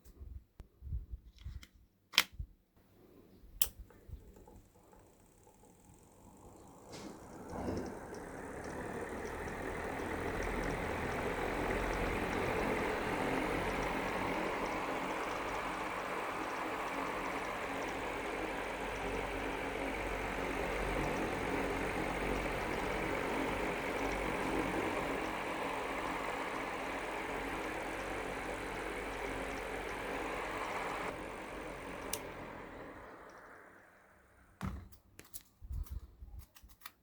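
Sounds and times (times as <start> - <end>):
faint regular ticking: 3.6 - 33.6
electric fan running: 3.6 - 35.1.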